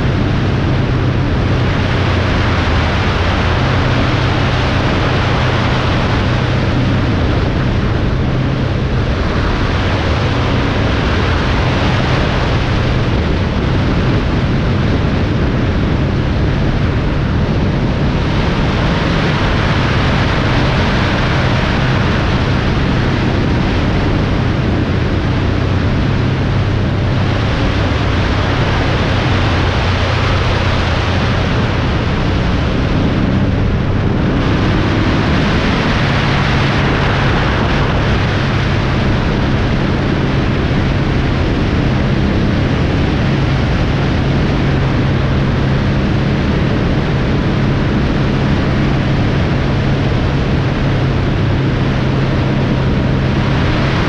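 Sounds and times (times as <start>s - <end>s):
low engine hum: 0.0s - 54.0s
wind and road noise: 0.0s - 54.0s.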